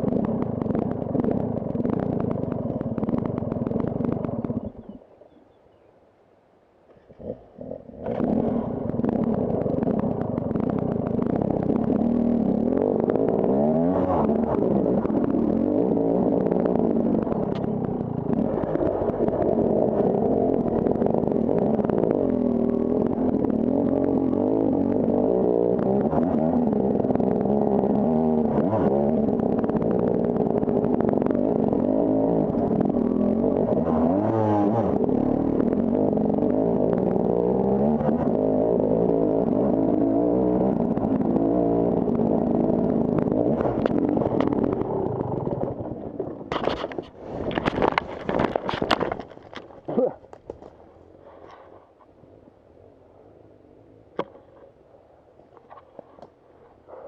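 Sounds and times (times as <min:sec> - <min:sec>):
motorcycle engine revving: 0:00.0 - 0:05.4, 0:07.0 - 0:52.1.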